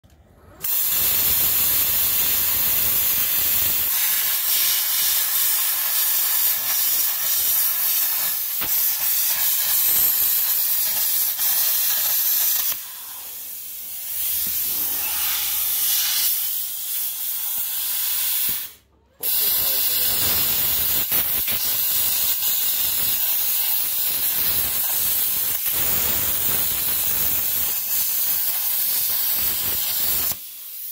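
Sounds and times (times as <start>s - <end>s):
plasma cutter hissing: 0.6s - 30.9s.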